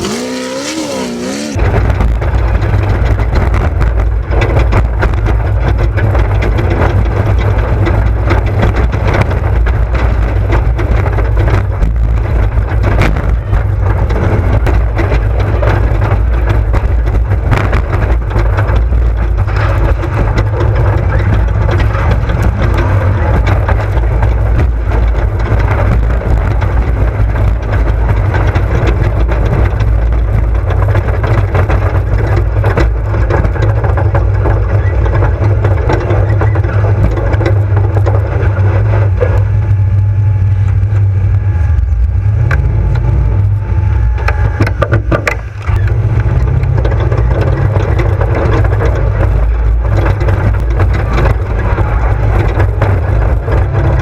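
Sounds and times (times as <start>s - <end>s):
rattling knocks: 0.0s - 39.6s, 44.1s - 54.0s
buggy engine rumbling: 0.0s - 54.0s.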